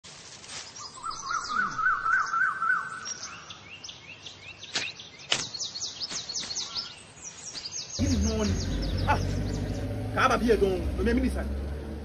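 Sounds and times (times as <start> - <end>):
birds chirping and twittering: 0.6 - 12.0.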